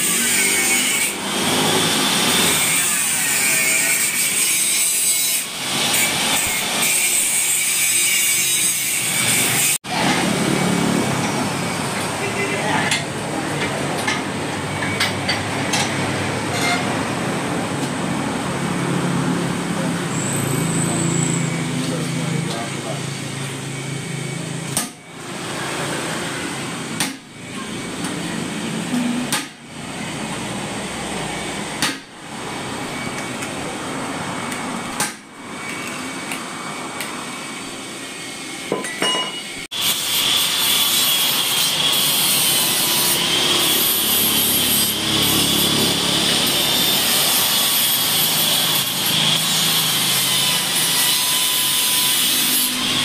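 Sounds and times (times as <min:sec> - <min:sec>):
grinding with high whine: 0:00.0 - 0:53.0.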